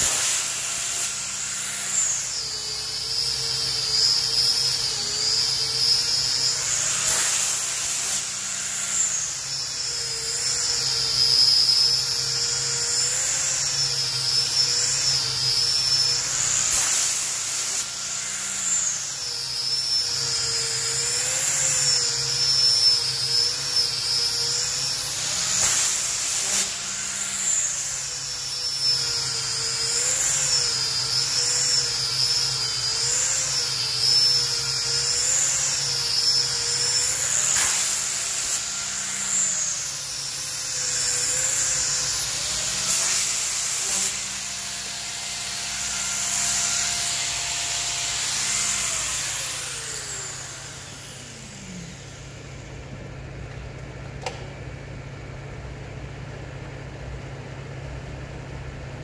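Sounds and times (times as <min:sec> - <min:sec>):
angle grinder sanding wood: 0:00.0 - 0:28.1, 0:29.5 - 0:52.5.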